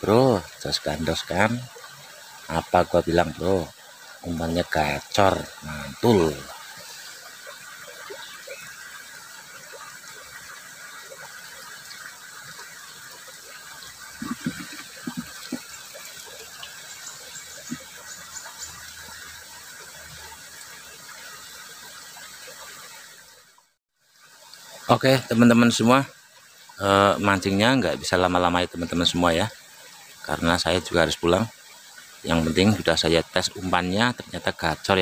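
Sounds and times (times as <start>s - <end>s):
stream flowing swiftly: 0.0s - 35.0s.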